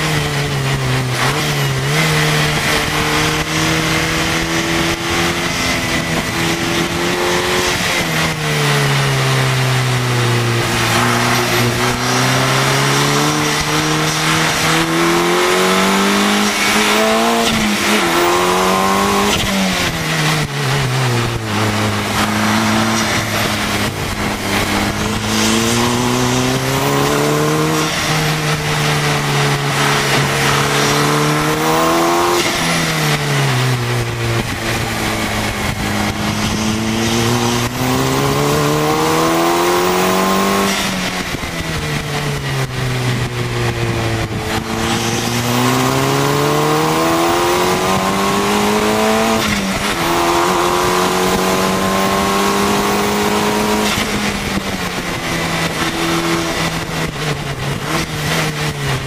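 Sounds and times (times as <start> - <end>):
race car engine revving: 0.0 - 59.0
wind and road rush: 0.0 - 59.0.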